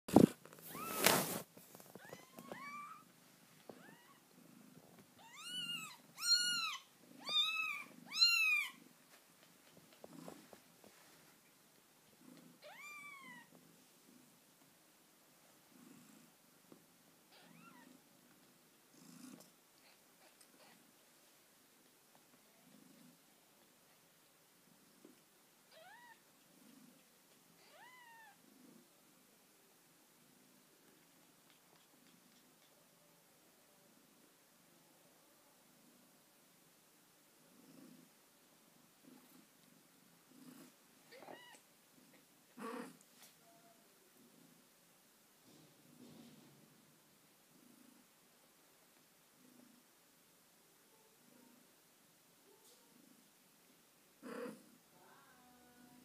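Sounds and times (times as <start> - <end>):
cat purring: 0.1 - 50.1, 52.4 - 56.0.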